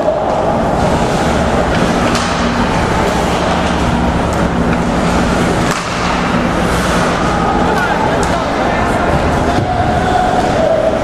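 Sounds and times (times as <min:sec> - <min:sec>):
arena hum and rumble: 0:00.0 - 0:11.0
sticks and puck clacking on ice: 0:00.2 - 0:10.8.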